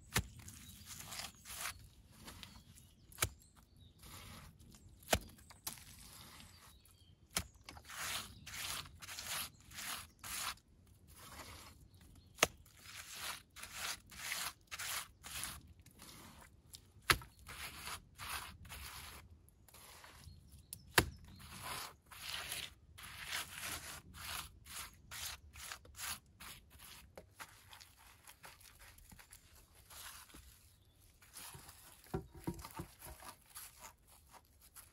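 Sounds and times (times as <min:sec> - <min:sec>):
clay soil scraping and crumbling: 0:00.0 - 0:34.9.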